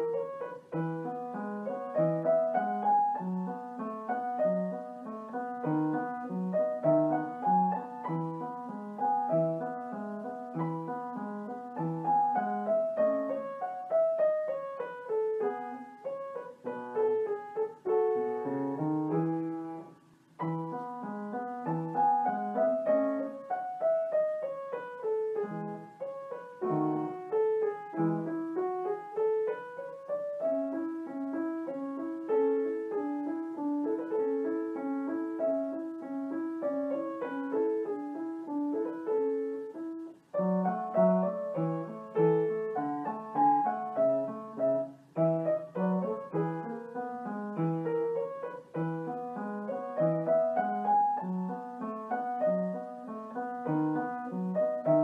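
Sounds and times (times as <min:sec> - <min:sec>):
piano melody: 0:00.0 - 0:55.0.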